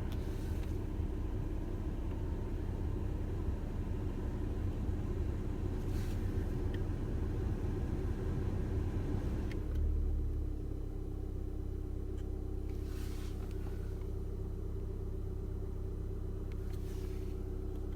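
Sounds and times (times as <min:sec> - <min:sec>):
car engine rumbling: 0:00.0 - 0:17.9.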